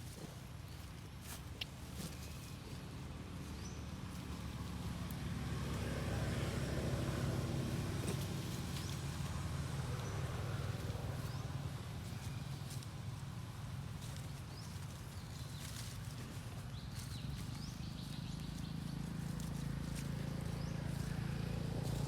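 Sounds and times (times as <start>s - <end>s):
vehicle engine hum passing: 0.2s - 22.0s.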